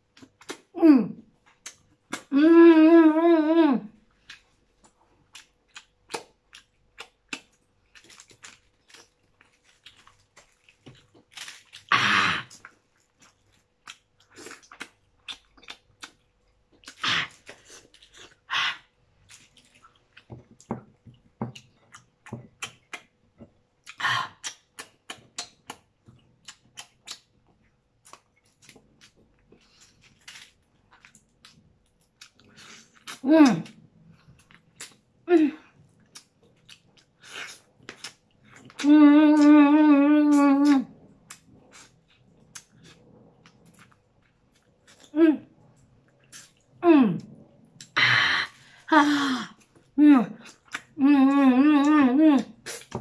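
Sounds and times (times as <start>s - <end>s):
wet chewing: 4.1s - 51.0s.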